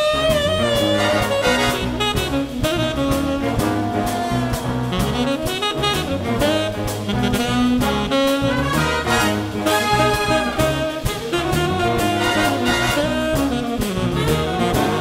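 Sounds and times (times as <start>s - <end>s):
big band jazz: 0.0s - 15.0s
tenor saxophone: 0.0s - 15.0s
drum beat: 0.3s - 15.0s.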